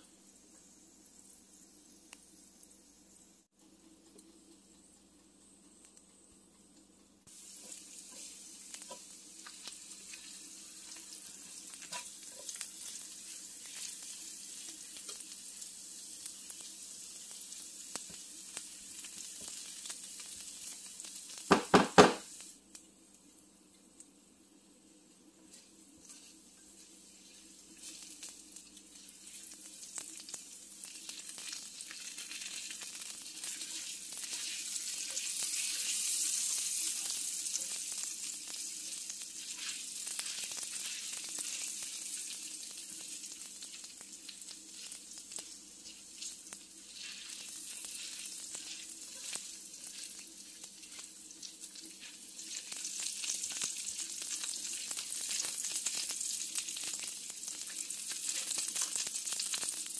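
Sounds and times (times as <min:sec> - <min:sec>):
garlic sizzling in hot oil: 0:00.0 - 0:06.0, 0:06.8 - 0:59.9.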